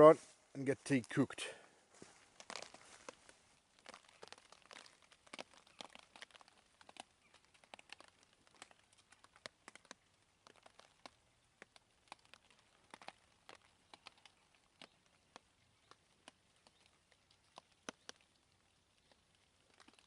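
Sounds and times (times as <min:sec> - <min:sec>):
dry twigs and leaves crackling: 0:00.0 - 0:20.0.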